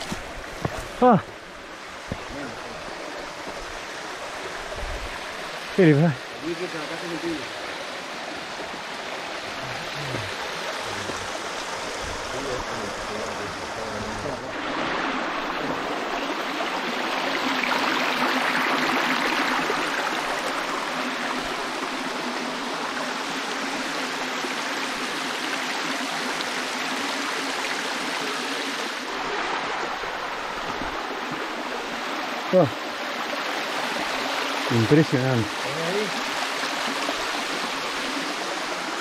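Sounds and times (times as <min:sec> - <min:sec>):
creek running over rocks: 0:00.0 - 0:39.0.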